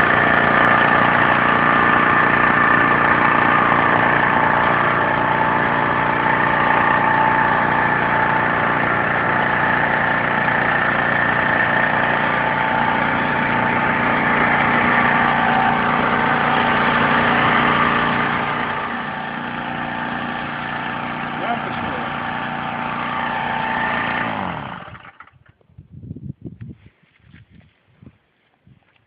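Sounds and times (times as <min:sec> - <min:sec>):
small petrol engine running: 0:00.0 - 0:25.6.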